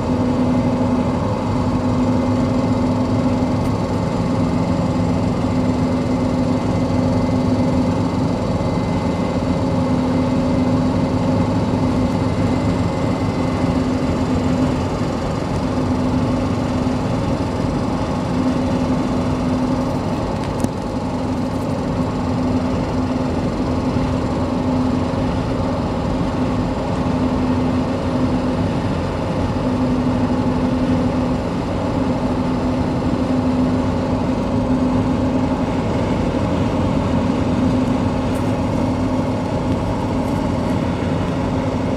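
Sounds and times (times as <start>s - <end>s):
diesel engine running: 0.0s - 41.9s
tyres humming on road: 0.0s - 41.9s.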